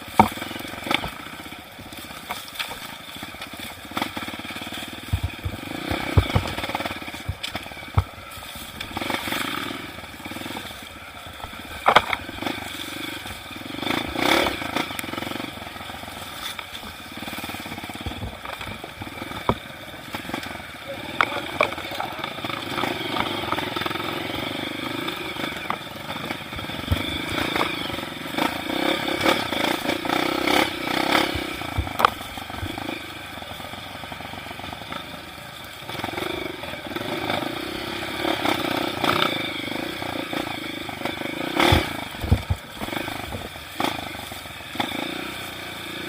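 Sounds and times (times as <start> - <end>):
knocks and rattles from bike: 0.0 - 46.0
motorcycle engine revving: 0.0 - 46.0.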